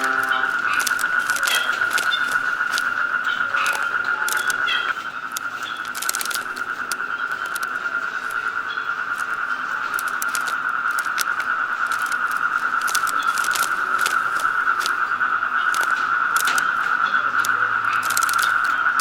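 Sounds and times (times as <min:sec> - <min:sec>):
bird chirps: 0:00.0 - 0:19.0
footsteps on leaf litter: 0:00.0 - 0:19.0
high-pitched insect drone: 0:00.0 - 0:19.0.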